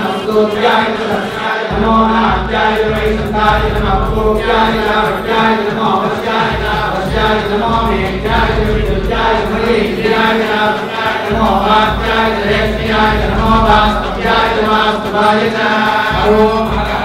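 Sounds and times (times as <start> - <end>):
man chanting over a loudspeaker: 0.0 - 17.0.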